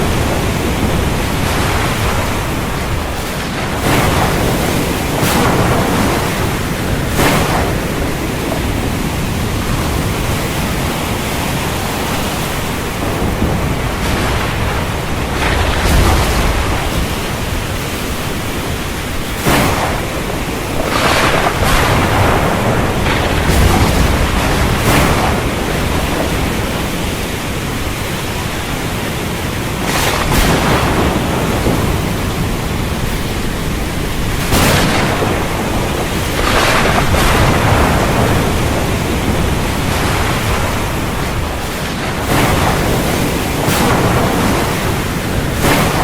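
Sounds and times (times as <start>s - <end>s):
storm wind: 0.0s - 46.0s
waves breaking: 0.0s - 46.0s.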